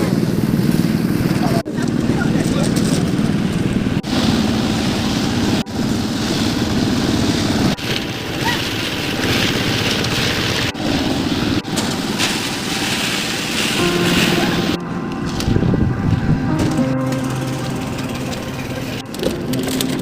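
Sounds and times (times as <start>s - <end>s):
construction site noise: 0.0s - 20.0s
machine running: 2.7s - 20.0s.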